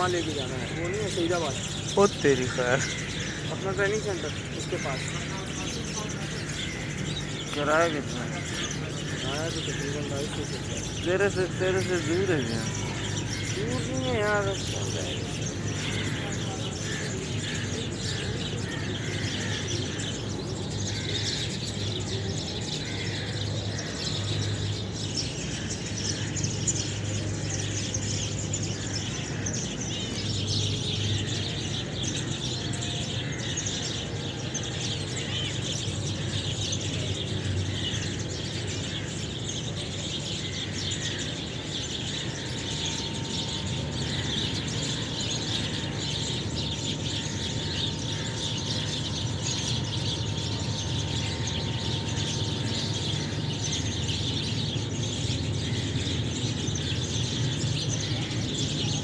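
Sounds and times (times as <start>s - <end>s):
small birds chirping: 0.0s - 59.0s
steady low hum: 0.0s - 59.0s.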